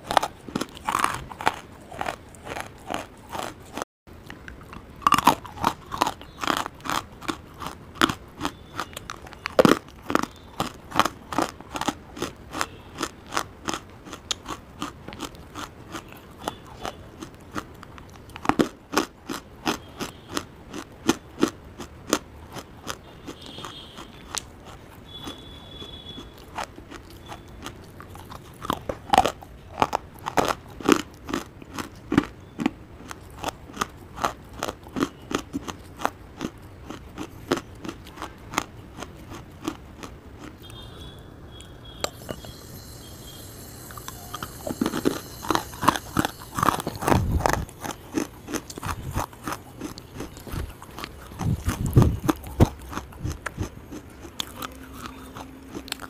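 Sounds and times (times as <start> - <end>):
crunching and chewing clay: 0.0 - 56.0.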